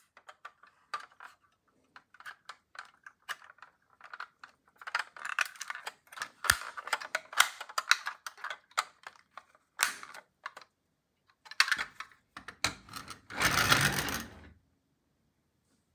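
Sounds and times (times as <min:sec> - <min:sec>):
toy car handling clicks and taps: 0:00.0 - 0:14.3.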